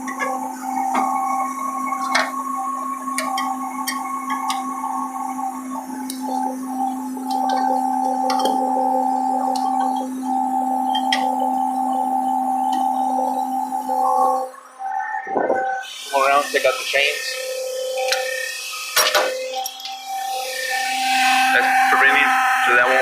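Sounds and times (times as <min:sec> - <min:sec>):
truck engine whining drone: 0:00.0 - 0:23.0.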